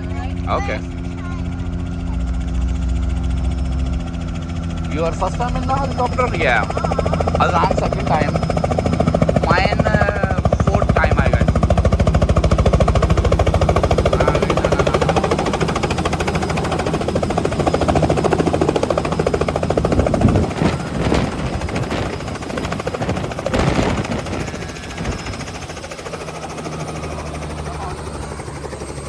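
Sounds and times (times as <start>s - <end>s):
helicopter engine whine: 0.0s - 29.0s
helicopter rotor chopping: 0.0s - 29.0s.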